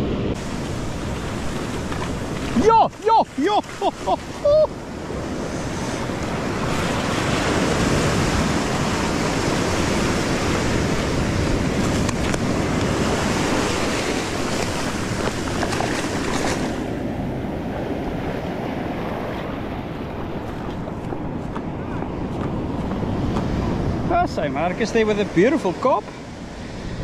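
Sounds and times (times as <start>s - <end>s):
surf washing over sand: 0.0s - 27.0s.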